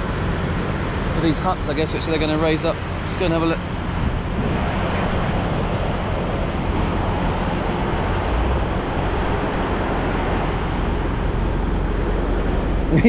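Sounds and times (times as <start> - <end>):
surf washing: 0.0 - 13.0
wind rumbling on microphone: 0.0 - 13.0.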